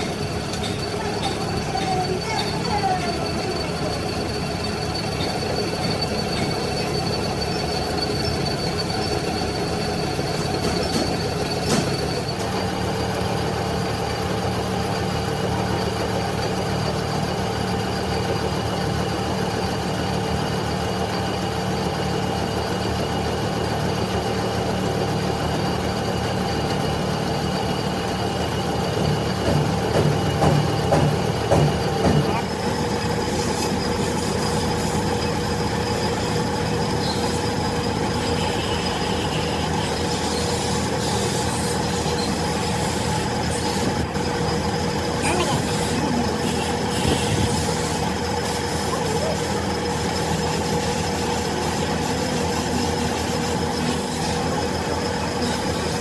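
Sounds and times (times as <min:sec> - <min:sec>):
lathe humming and whining: 0:00.0 - 0:56.0.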